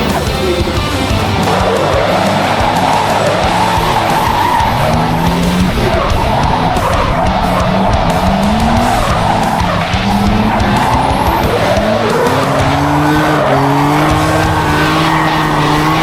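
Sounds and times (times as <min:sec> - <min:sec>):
car engine at high revs: 0:00.0 - 0:16.0
tyres squealing: 0:00.0 - 0:16.0.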